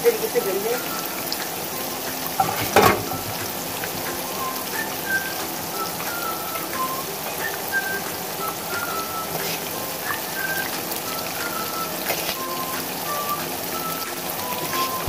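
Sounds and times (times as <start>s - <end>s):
oil sizzling in a wok: 0.0s - 15.0s.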